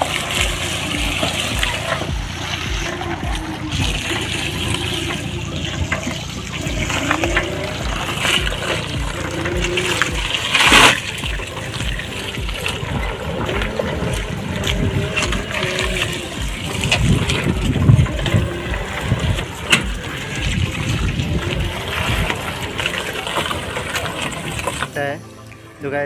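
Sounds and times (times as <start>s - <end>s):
tyres rolling through muddy puddles: 0.0s - 26.0s
water splashing and sloshing: 0.0s - 26.0s.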